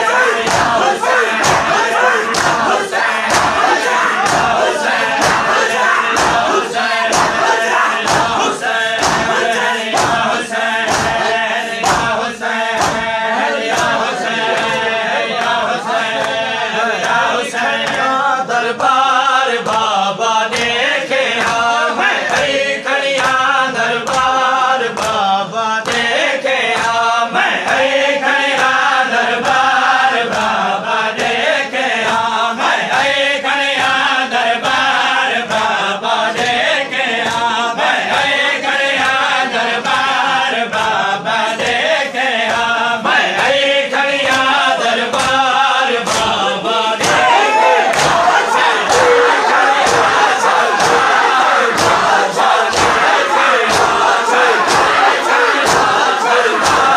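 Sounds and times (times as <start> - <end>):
men singing a lament: 0.0 - 56.9
rhythmic chest-beating: 0.0 - 56.9.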